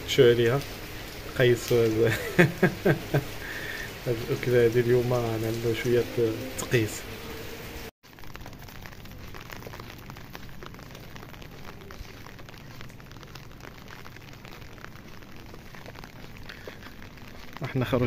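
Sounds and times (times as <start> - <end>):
rain falling on pavement: 0.0 - 18.0.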